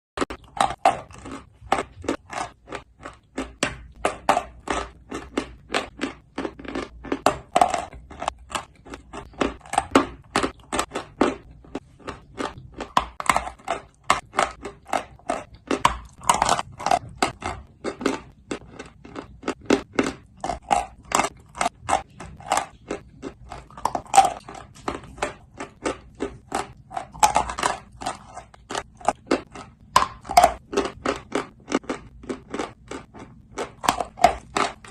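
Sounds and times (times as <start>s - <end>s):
person chewing crunchy clay: 0.2s - 34.9s.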